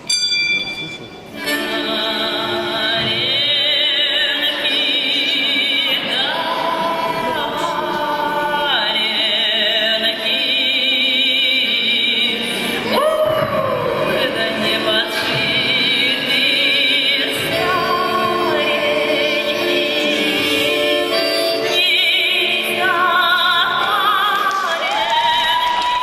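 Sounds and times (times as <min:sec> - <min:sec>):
woman singing operatically: 0:01.4 - 0:26.0.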